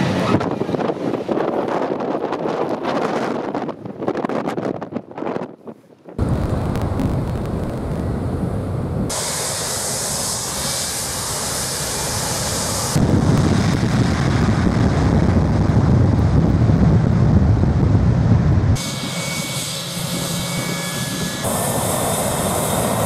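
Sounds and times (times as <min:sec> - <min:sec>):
jet engines at high power: 0:00.0 - 0:04.1, 0:06.2 - 0:23.0.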